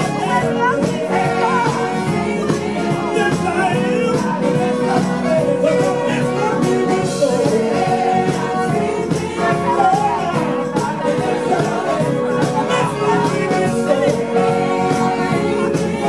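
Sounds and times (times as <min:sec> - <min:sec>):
electric guitar: 0:00.0 - 0:16.0
live soul band playing: 0:00.0 - 0:16.0
man singing into microphone: 0:00.0 - 0:16.0
saxophone: 0:00.0 - 0:16.0.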